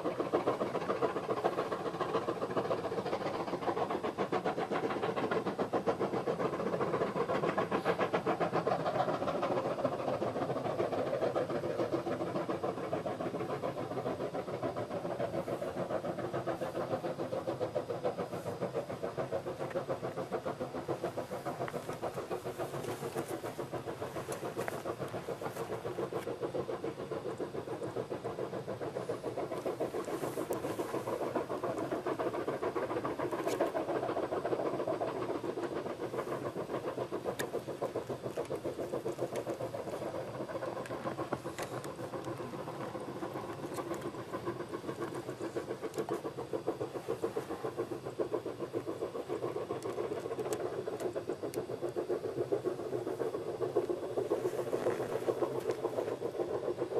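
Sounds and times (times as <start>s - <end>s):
steam locomotive exhaust chuffing: 0.0s - 56.9s.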